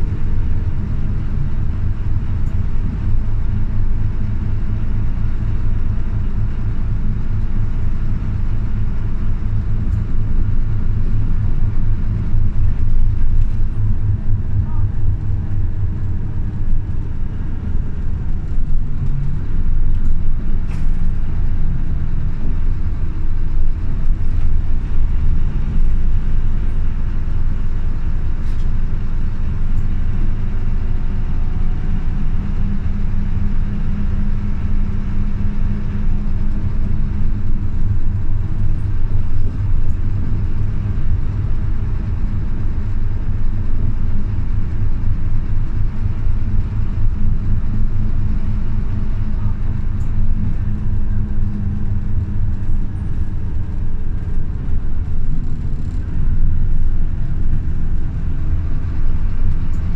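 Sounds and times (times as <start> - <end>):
bus engine and road noise: 0.0 - 59.9
low hum: 0.0 - 59.9.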